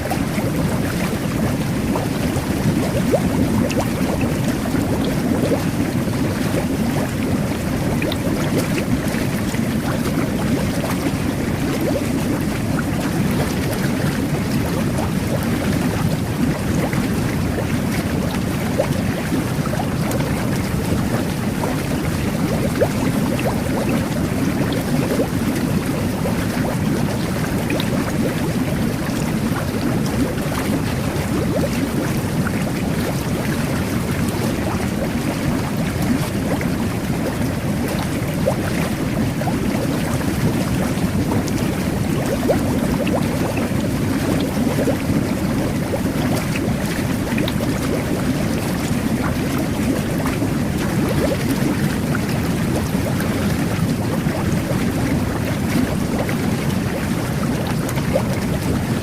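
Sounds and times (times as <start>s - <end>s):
bubbles popping: 0.0s - 59.0s
water churning from bath jets: 0.0s - 59.0s.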